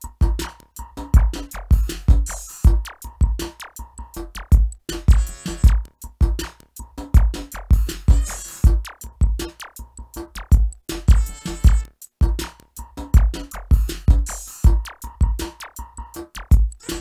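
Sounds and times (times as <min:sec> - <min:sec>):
drum machine beat with deep kick: 0:00.0 - 0:17.0.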